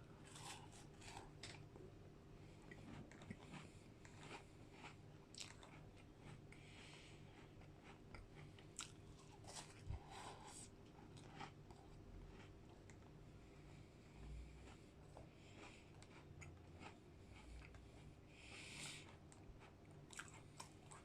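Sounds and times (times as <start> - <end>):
person chewing and crunching: 0.0 - 1.8, 2.6 - 21.0.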